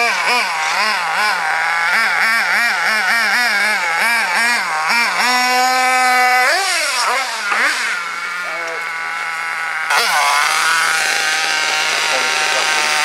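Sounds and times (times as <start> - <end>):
nitro engine revving: 0.0 - 13.0.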